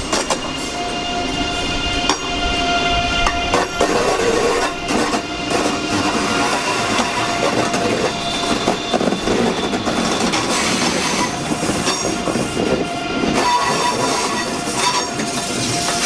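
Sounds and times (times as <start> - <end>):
thin steady whine: 0.0 - 16.0
train rumble: 0.0 - 16.0.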